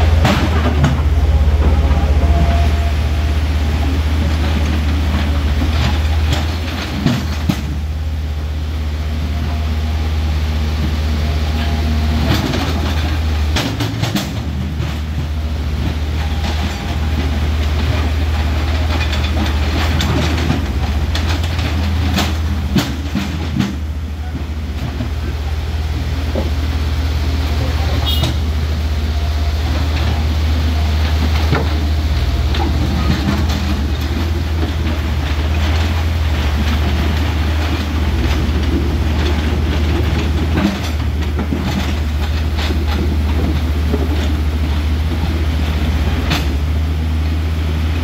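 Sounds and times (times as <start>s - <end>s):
excavator diesel engines running: 0.0s - 48.0s
rushing river water: 0.0s - 48.0s.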